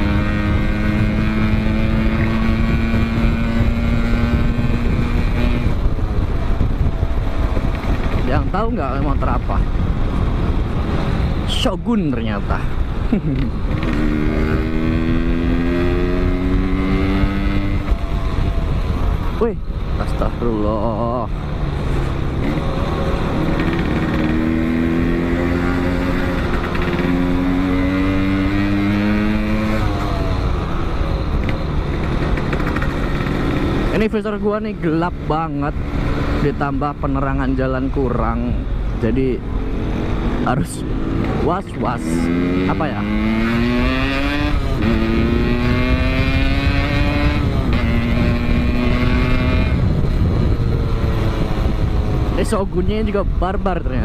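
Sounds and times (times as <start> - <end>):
motorcycle engine accelerating: 0.0 - 54.0
wind rumble: 0.0 - 54.0.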